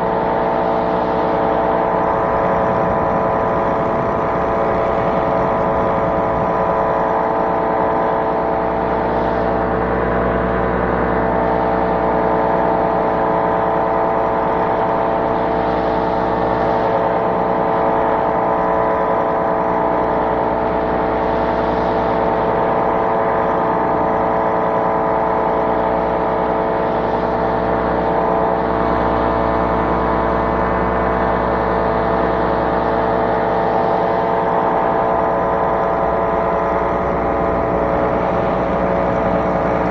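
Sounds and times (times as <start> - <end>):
small aircraft engine running: 0.0 - 39.9.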